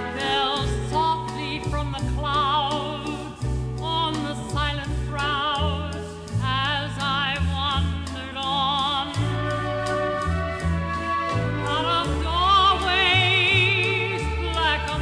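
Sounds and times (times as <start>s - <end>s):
woman singing with vibrato: 0.0s - 15.0s.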